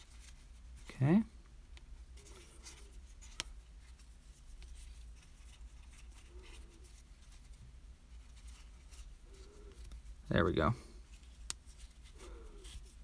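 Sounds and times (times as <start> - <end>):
hands rustling yarn: 0.0 - 13.0.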